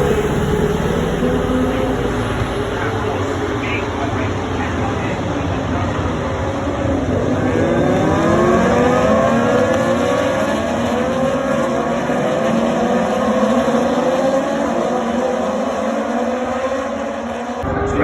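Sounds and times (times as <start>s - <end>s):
racing motorcycles accelerating past: 0.0s - 18.0s.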